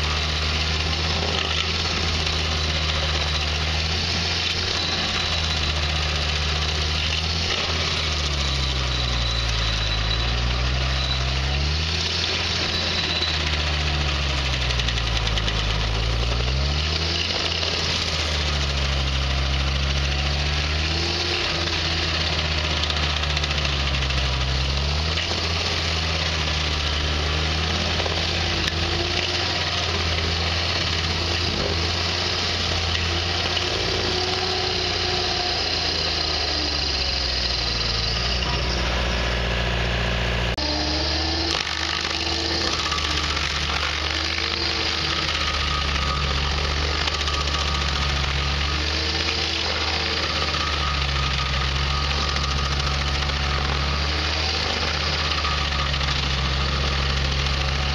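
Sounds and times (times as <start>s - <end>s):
cutting wheel chewing stump: 0.0s - 57.9s
stump grinder engine running: 0.0s - 57.9s.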